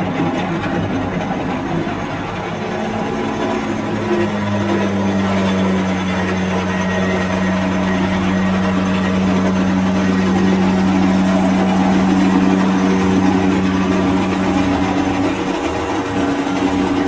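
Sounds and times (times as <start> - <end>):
busy mechanical noise: 0.0 - 17.0
low machinery hum: 0.0 - 17.0.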